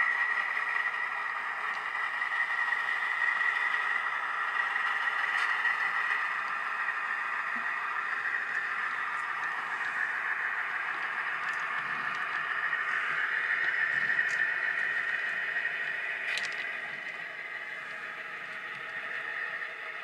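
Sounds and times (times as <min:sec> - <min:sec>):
model locomotive engine sound: 0:00.0 - 0:20.0.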